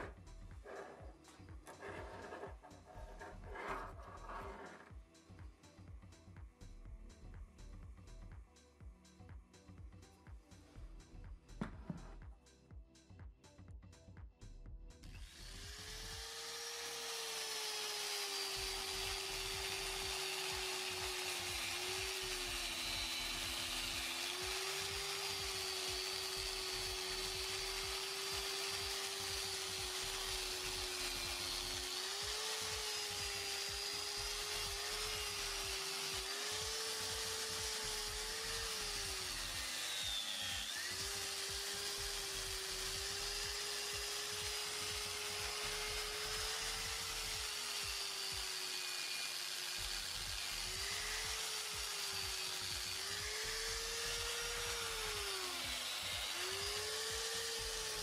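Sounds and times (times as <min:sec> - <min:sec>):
angle grinder motor whining: 0:00.0 - 0:04.9, 0:15.0 - 0:58.0.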